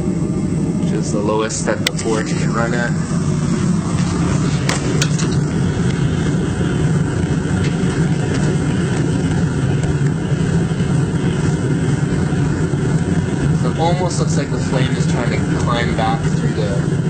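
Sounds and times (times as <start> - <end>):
gas forge burner roar: 0.0 - 17.0.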